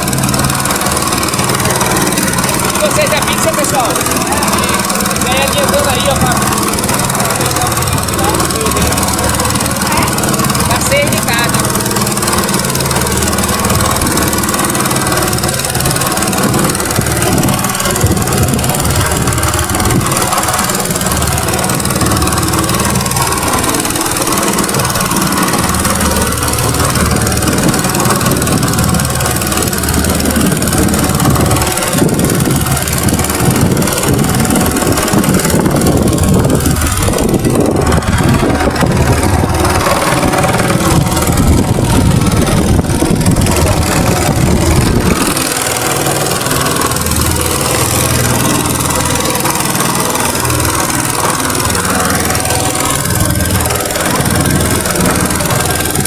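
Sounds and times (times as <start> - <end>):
boat engine running: 0.0 - 56.0
rushing noise: 0.0 - 56.0.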